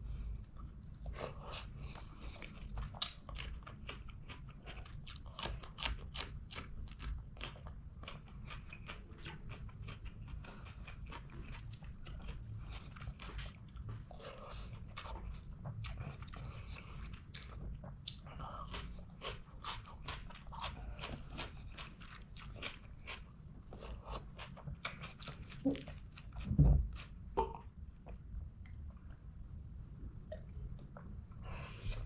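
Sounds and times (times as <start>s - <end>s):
chewing and crunching food: 0.0s - 32.0s.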